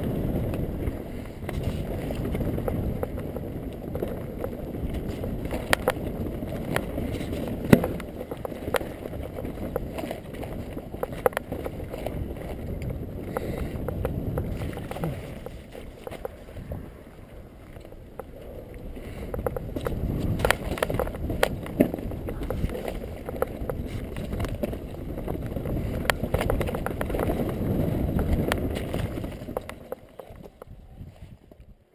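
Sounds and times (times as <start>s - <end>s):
bike rattling over stones: 0.0s - 31.7s
tyres rumbling on rock and gravel: 0.0s - 31.7s.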